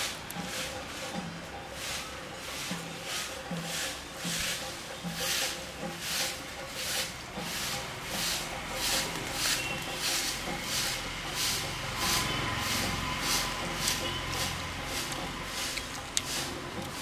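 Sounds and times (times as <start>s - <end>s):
rhythmic pulsing hiss: 0.0s - 17.0s.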